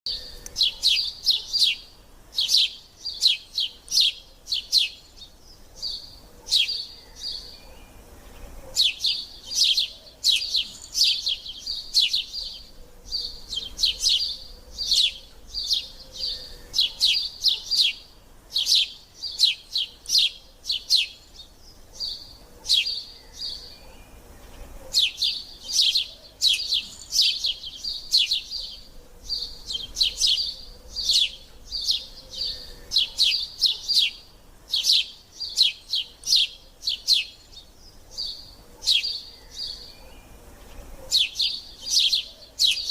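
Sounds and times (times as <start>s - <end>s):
nestling birds chirping: 0.1s - 42.9s.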